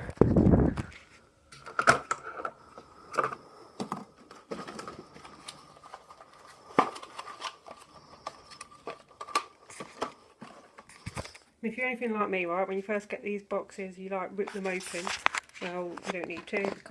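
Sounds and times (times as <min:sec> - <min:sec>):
light crinkling: 0:00.0 - 0:11.5, 0:14.4 - 0:16.9.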